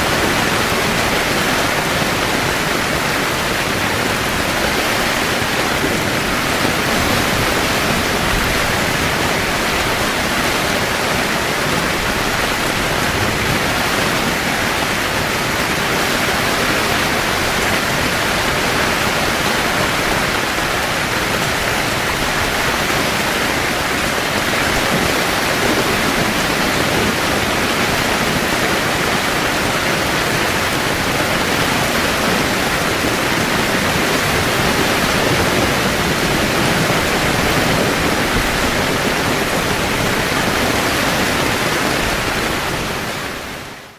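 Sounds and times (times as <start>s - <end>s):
heavy rain on a tent: 0.0s - 43.9s.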